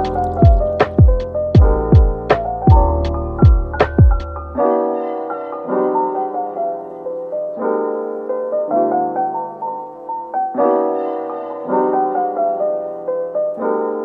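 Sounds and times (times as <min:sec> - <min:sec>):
soft melodic piano tune: 0:00.0 - 0:14.0.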